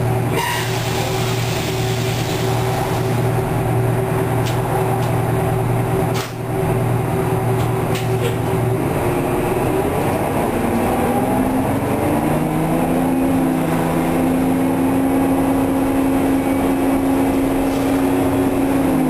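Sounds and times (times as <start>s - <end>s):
bus diesel engine: 0.0s - 19.0s.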